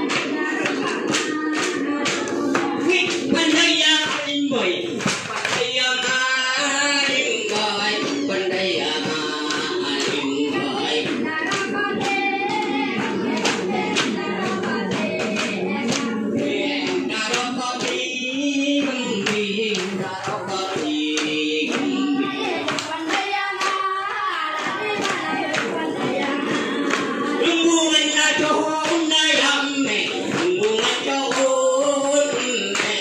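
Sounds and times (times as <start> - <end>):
group chanting verses: 0.0 - 33.0
percussive claps or stamping: 0.0 - 33.0.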